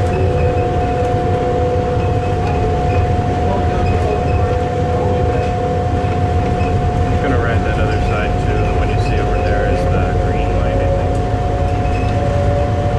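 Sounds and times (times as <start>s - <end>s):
people-mover train whine: 0.0s - 12.9s.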